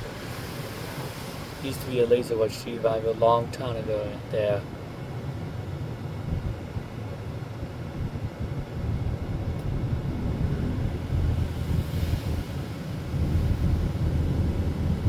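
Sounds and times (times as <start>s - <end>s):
truck engine rumble from cab: 0.0s - 15.0s.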